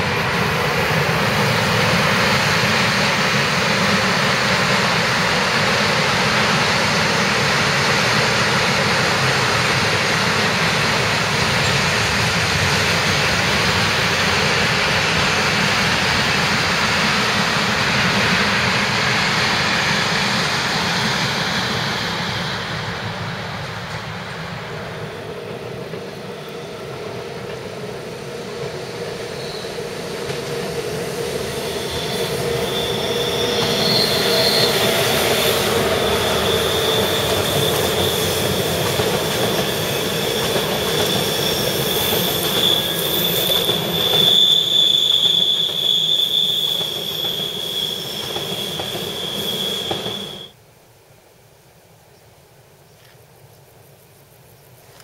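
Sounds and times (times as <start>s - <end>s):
freight train rumbling past: 0.0s - 50.6s
train wheels squealing on curve: 0.0s - 50.6s.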